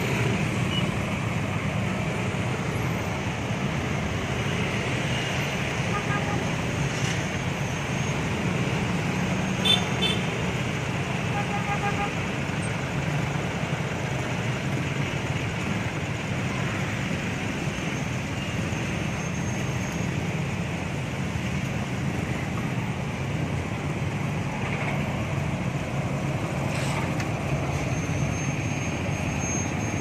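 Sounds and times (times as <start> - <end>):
diesel bus engines droning: 0.0 - 30.0
slow street traffic: 0.0 - 30.0.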